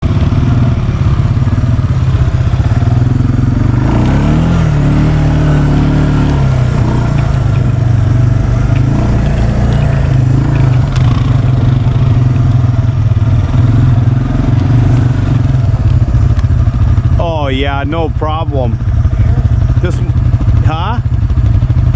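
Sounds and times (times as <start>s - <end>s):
atv engine revving: 0.0s - 21.9s.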